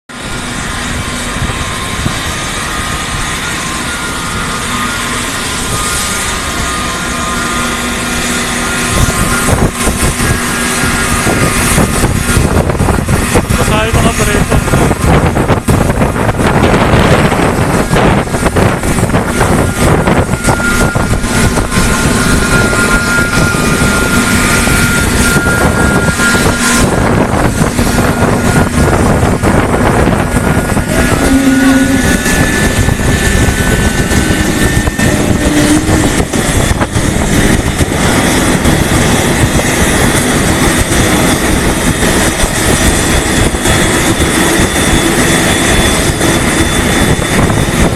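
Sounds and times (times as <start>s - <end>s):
aircraft engine running: 0.0s - 47.9s.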